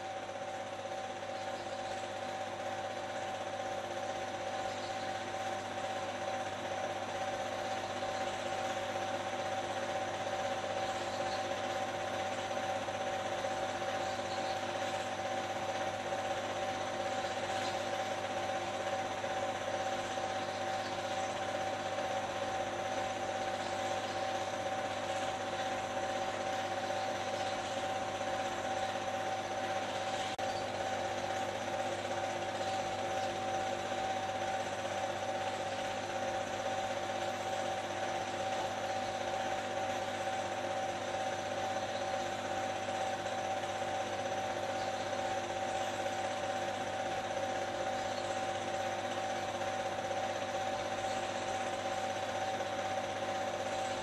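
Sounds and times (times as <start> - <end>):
steady mechanical whirr: 0.0 - 54.0.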